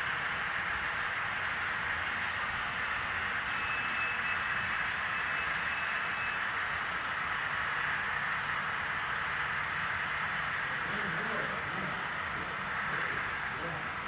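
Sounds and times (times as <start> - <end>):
faint high whine: 0.0 - 14.0
model train wheels rolling on rail: 0.0 - 14.0.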